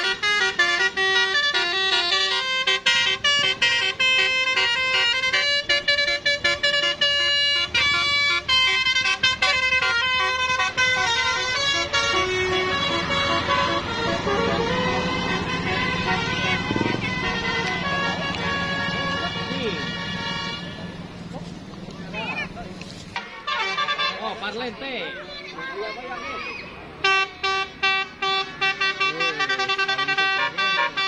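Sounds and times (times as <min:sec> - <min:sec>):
musical bus air horn tune: 0:00.0 - 0:21.1, 0:23.2 - 0:24.4, 0:27.0 - 0:31.0.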